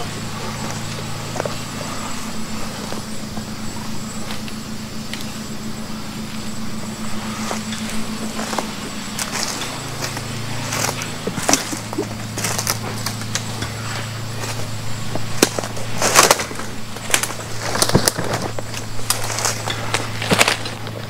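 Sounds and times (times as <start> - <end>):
footsteps crunching dry leaves: 0.0 - 21.0
steady low hum: 0.0 - 21.0.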